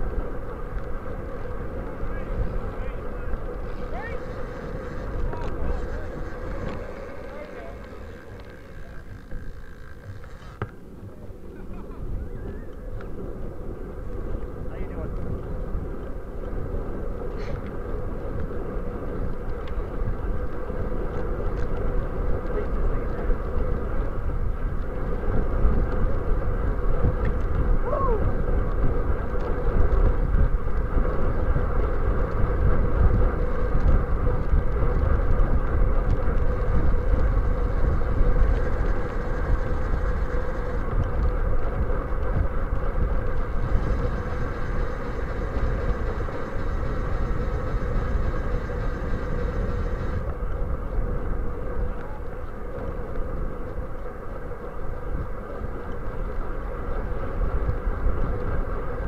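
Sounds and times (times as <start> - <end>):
bicycle tyre road noise: 0.0 - 59.0
wind on microphone: 0.0 - 59.0.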